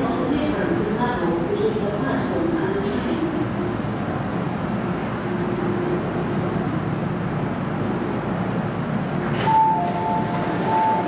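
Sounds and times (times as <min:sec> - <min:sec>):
low rumble of metro platform: 0:00.0 - 0:11.0.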